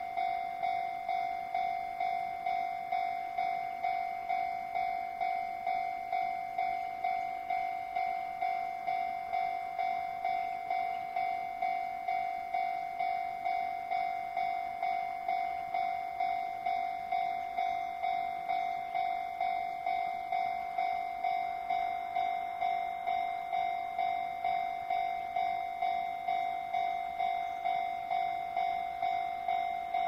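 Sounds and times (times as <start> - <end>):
level crossing bell clanging: 0.0 - 30.0.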